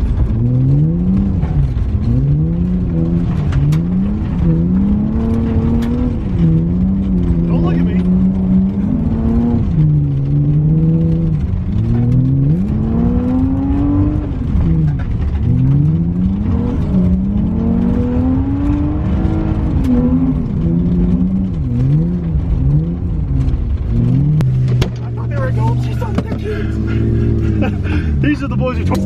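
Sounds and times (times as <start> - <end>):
car engine revving hard: 0.0 - 29.0.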